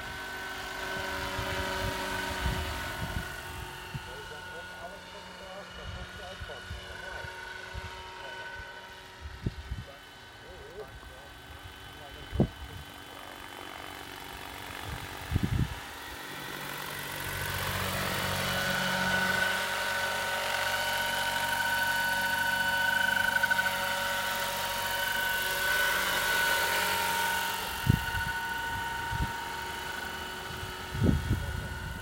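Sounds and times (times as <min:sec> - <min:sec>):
model helicopter whine: 0:00.0 - 0:32.0.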